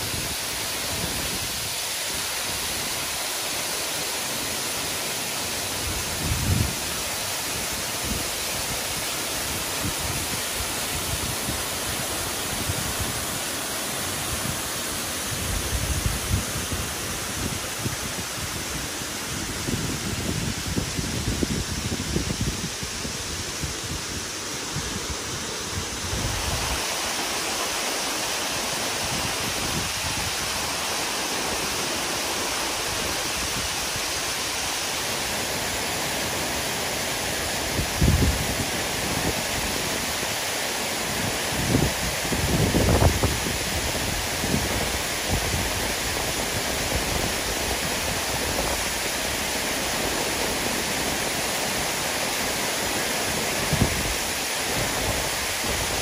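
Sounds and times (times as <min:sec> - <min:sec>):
waterfall rushing over rock: 0:00.0 - 0:56.0.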